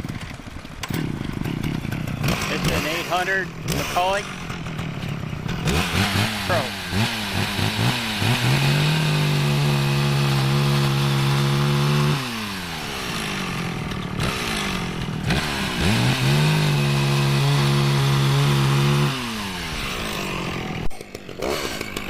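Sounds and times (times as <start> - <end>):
chainsaw revving and idling: 0.0 - 22.0.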